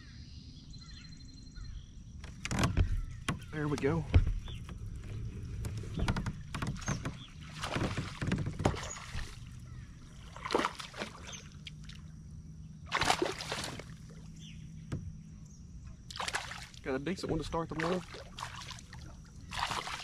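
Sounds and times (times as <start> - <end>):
fish splashing and thrashing: 2.4 - 12.2, 12.8 - 15.2, 15.9 - 20.0.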